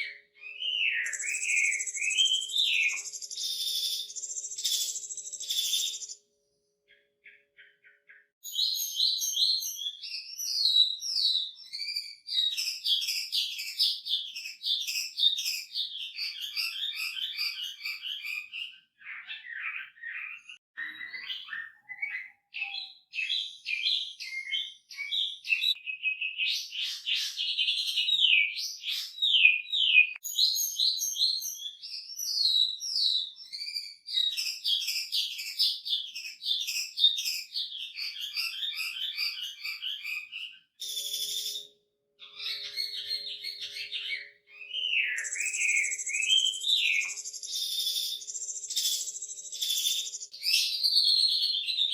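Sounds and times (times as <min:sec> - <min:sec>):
bird singing whistled trills: 0:00.0 - 0:06.3, 0:06.9 - 0:51.9.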